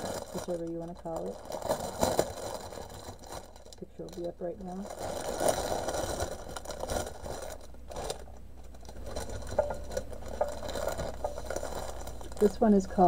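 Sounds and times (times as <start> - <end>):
plastic packaging crinkling: 0.0 - 13.0
steady low hum: 0.0 - 13.0.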